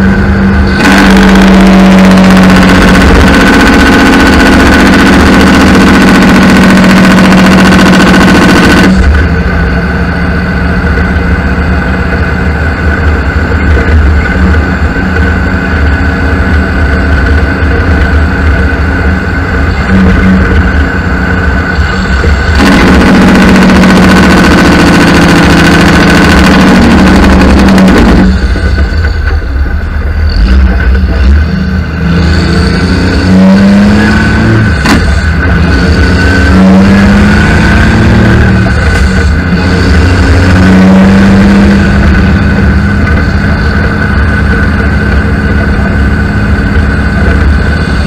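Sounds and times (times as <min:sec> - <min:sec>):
road noise hiss: 0:00.0 - 0:48.0
truck diesel engine drone: 0:00.0 - 0:48.0.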